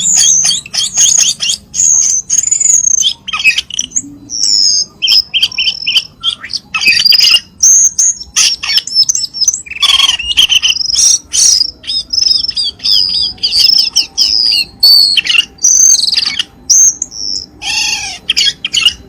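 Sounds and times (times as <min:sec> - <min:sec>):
bird song with chirps and whistles: 0:00.0 - 0:19.0.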